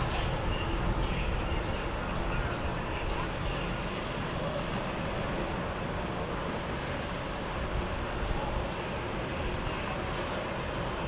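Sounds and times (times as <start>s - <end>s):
boat engines rumbling: 0.0s - 11.0s.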